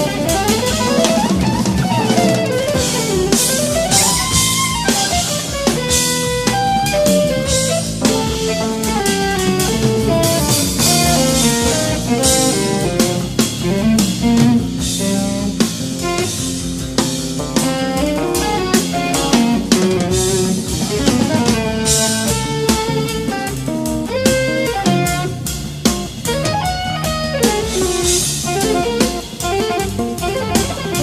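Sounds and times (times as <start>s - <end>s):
drum kit with cymbals: 0.0s - 31.0s
electric bass: 0.0s - 31.0s
electric guitar lead: 0.0s - 31.0s.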